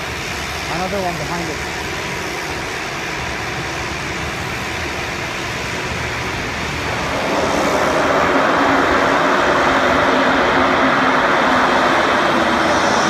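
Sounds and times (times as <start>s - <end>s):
aircraft engine rush: 0.0s - 13.0s.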